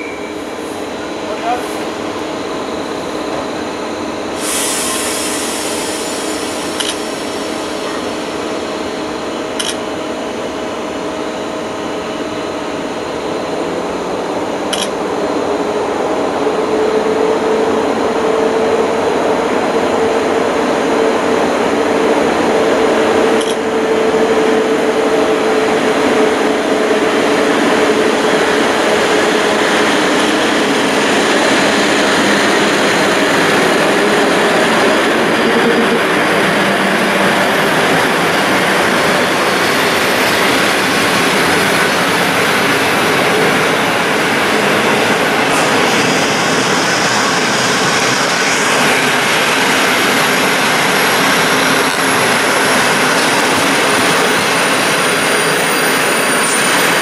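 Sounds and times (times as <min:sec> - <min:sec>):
electric locomotive running: 0:00.0 - 0:57.0.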